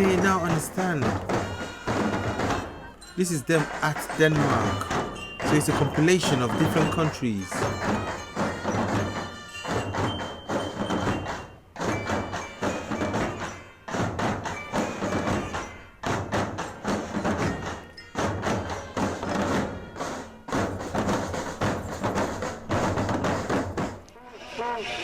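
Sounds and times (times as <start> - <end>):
military marching band: 0.0 - 24.1
drums beating cadence: 0.0 - 24.2.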